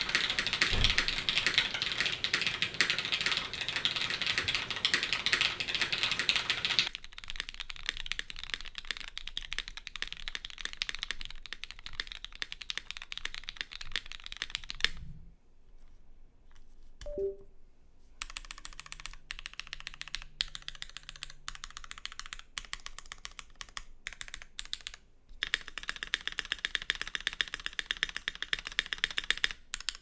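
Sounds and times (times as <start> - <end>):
fast typing on mechanical keyboard: 0.0 - 15.0, 18.2 - 30.0.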